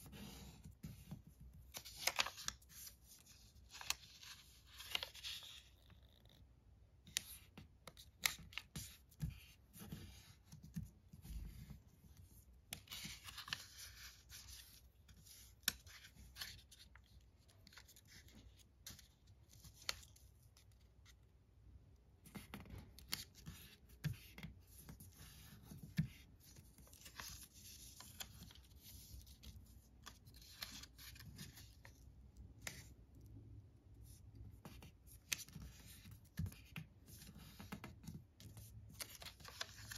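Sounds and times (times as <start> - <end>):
paper being folded and creased: 0.0 - 21.2, 22.2 - 33.0, 34.0 - 39.9.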